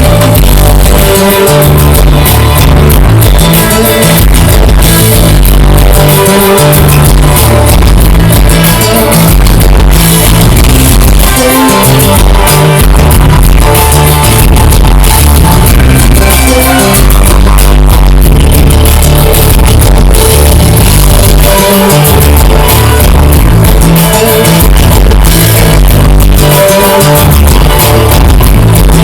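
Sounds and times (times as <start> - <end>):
loud music with heavy bass: 0.0 - 29.0.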